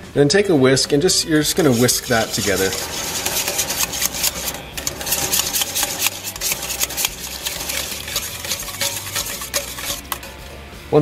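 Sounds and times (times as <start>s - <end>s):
whisk beating in metal bowl: 1.2s - 10.6s.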